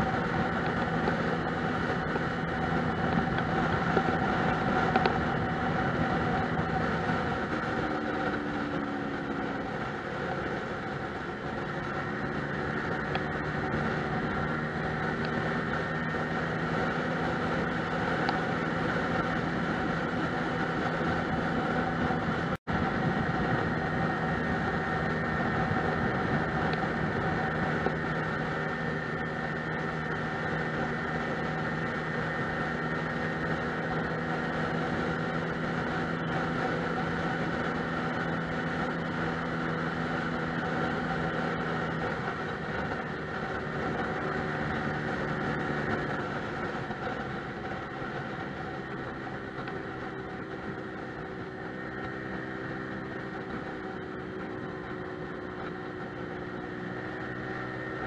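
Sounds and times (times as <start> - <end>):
scooter engine running: 0.0 - 58.0
wind and road noise: 0.0 - 58.0.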